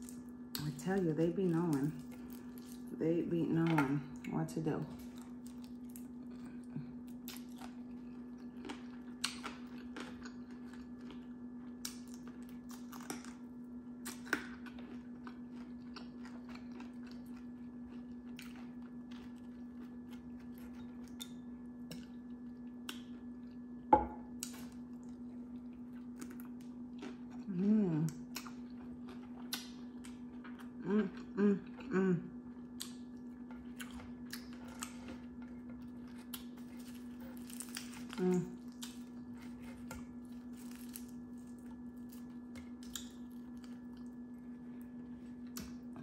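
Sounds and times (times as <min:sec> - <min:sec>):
chewing crunchy chicken: 0:00.0 - 0:03.0, 0:03.9 - 0:46.0
low hum: 0:00.0 - 0:46.0.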